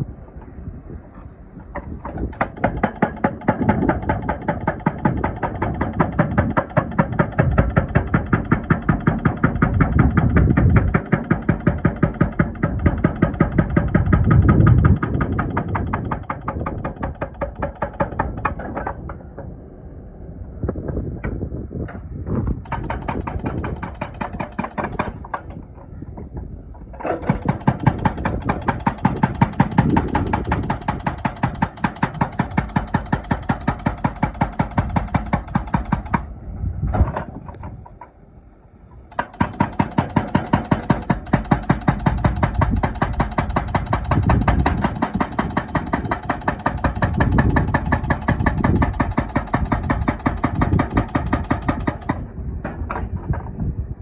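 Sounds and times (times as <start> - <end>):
excavator engine running: 0.0 - 53.6
hydraulic breaker hammering: 1.6 - 19.3, 22.6 - 38.1, 39.1 - 53.5.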